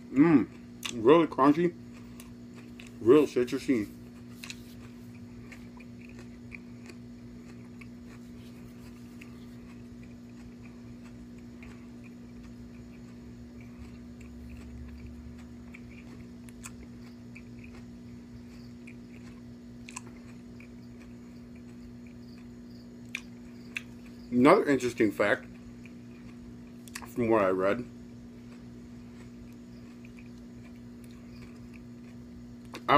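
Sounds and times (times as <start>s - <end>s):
person chewing crunchy food: 0.0s - 32.9s
steady low hum: 0.0s - 32.9s.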